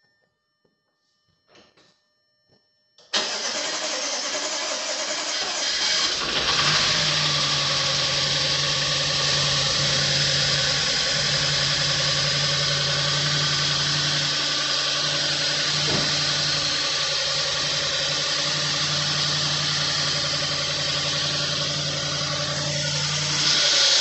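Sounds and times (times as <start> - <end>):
car engine idling cold: 3.2 - 24.0.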